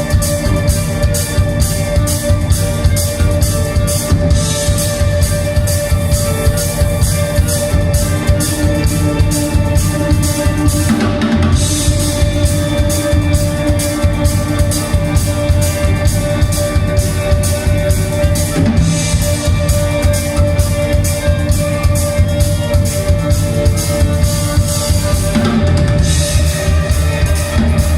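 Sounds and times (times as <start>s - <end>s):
drum kit beat: 0.0s - 27.9s
rock band playing: 0.0s - 27.9s.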